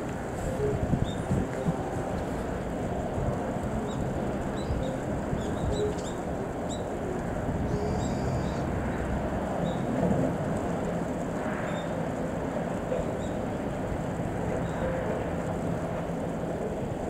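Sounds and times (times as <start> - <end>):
distant vehicles rumbling: 0.0 - 17.0.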